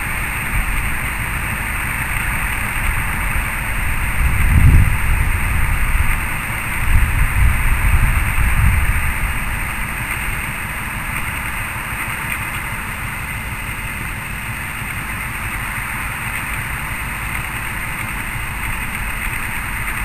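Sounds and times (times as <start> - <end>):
diesel locomotive engine rumbling: 0.0 - 20.0.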